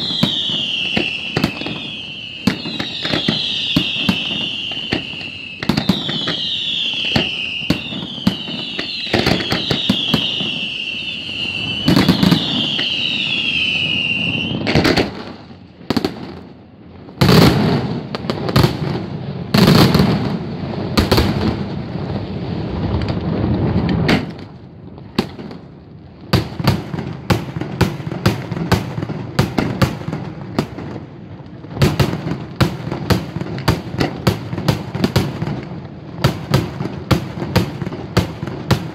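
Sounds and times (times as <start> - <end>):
fireworks exploding: 0.0 - 38.9
fireworks sharp cracks: 0.0 - 38.9
fireworks whistling: 0.0 - 38.9.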